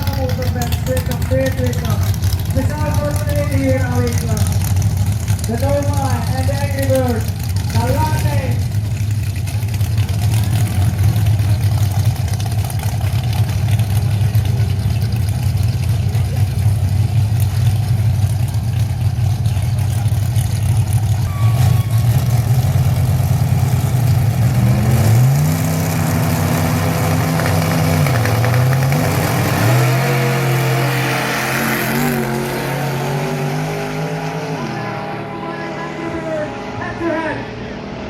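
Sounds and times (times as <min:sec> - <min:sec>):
drag car engines revving: 0:00.0 - 0:38.0.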